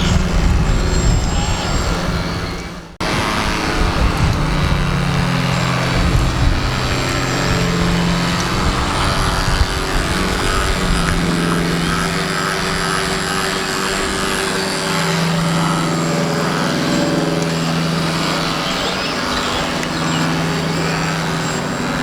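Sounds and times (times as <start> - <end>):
held tones shifting in pitch: 0.0 - 22.0
motor hum: 0.0 - 22.0
wind buffeting microphone: 0.0 - 22.0.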